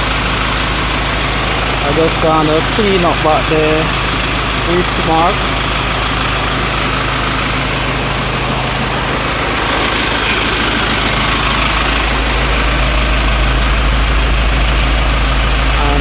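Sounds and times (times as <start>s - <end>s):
air conditioning rushing noise: 0.0s - 16.0s
truck engine idling: 0.0s - 16.0s.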